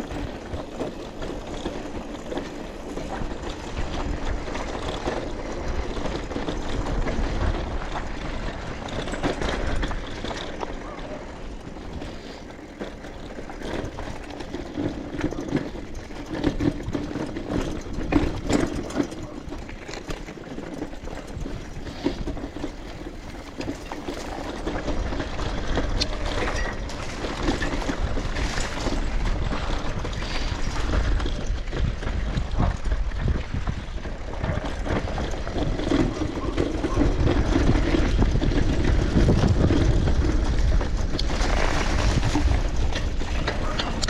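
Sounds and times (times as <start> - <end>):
bicycle rattling over bumps: 0.0 - 44.0
wind rumbling on microphone: 0.0 - 44.0.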